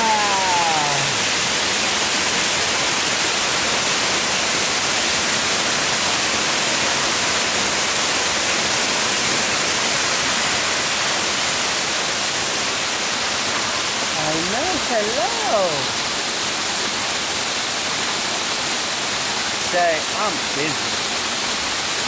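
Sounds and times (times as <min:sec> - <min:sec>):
waterfall splashing: 0:00.0 - 0:22.0.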